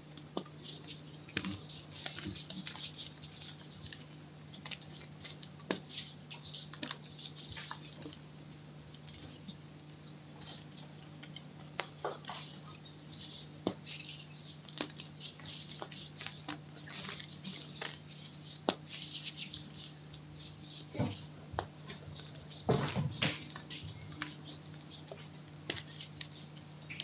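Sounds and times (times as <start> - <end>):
faint low hum: 0.0 - 27.0
chalk crunching and crumbling: 0.2 - 8.2, 8.9 - 27.0.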